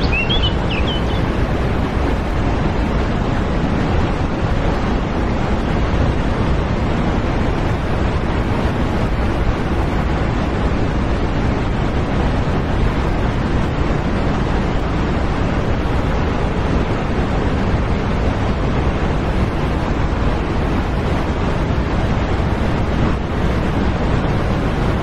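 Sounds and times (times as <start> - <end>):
steady loud rushing noise: 0.0 - 25.0.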